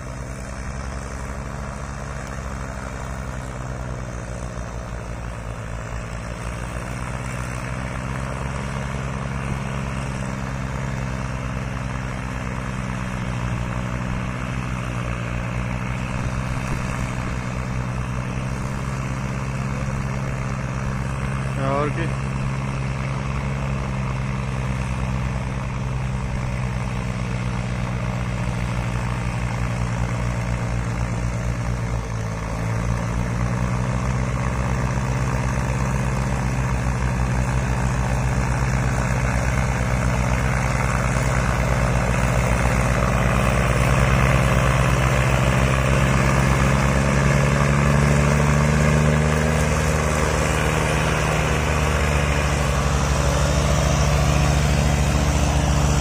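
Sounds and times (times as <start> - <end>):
tractor engines running under load: 0.0 - 56.0.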